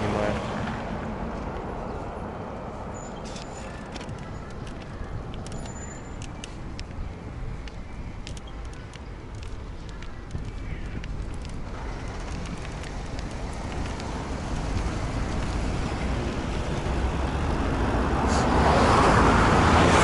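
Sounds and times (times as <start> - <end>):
road vehicle approaching: 0.0 - 20.0.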